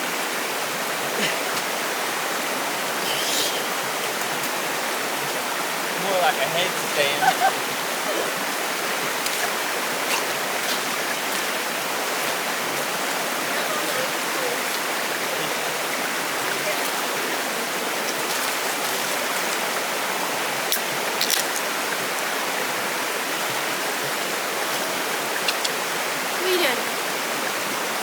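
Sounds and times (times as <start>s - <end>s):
flowing water: 0.0s - 28.0s.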